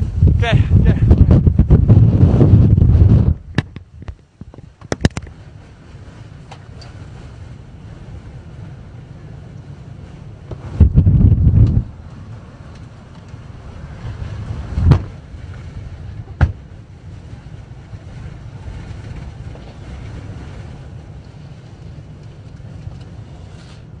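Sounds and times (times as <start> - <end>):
blizzard wind buffeting microphone: 0.0 - 24.0.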